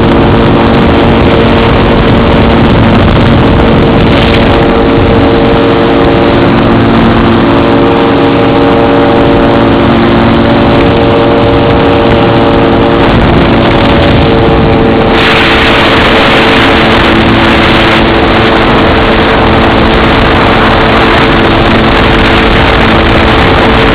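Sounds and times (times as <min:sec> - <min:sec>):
aircraft engine running steadily: 0:00.0 - 0:23.9
wind rushing over microphone: 0:00.0 - 0:23.9.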